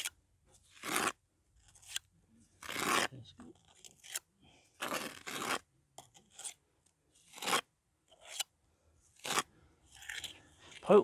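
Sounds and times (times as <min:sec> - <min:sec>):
trowel scraping mortar: 0:00.0 - 0:08.5, 0:09.1 - 0:11.0.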